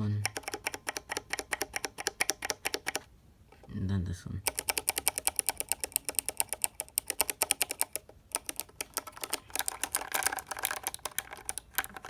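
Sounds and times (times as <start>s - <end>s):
keyboard switch clicking: 0.2s - 3.0s, 4.5s - 12.0s.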